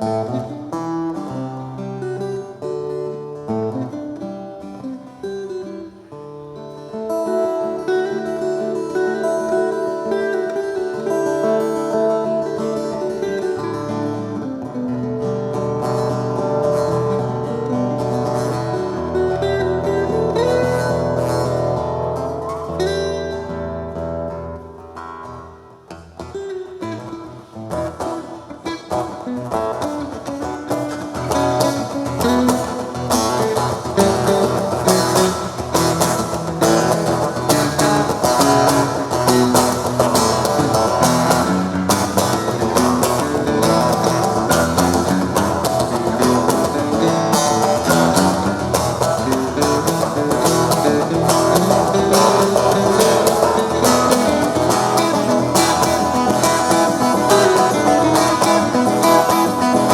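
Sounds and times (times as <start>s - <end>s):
guitar strummed and picked: 0.0s - 59.9s.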